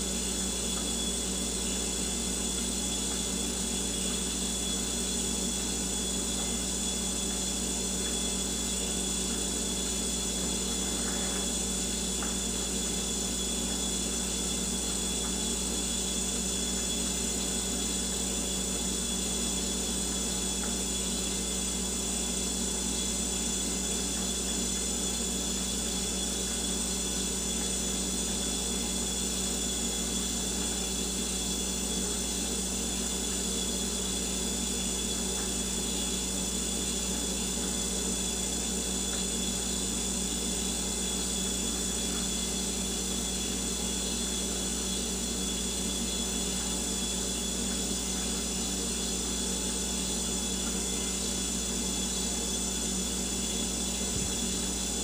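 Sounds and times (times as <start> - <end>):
refrigerator humming and hissing: 0.0 - 55.0.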